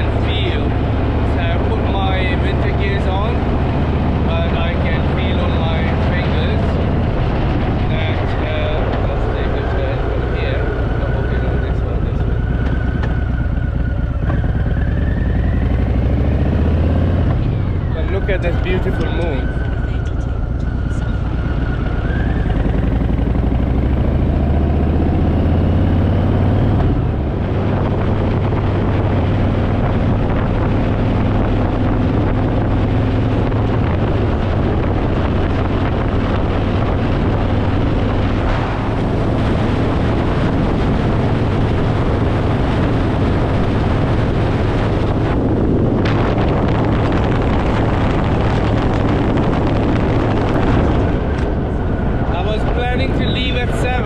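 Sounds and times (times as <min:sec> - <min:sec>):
motorcycle engine accelerating: 0:00.0 - 0:54.0
wind on microphone: 0:00.0 - 0:54.0.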